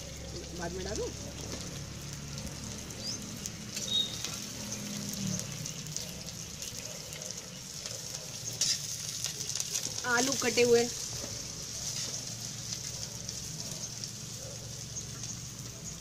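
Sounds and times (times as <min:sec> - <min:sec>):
onions frying in oil: 0:00.0 - 0:16.0
wood fire crackling: 0:00.0 - 0:16.0.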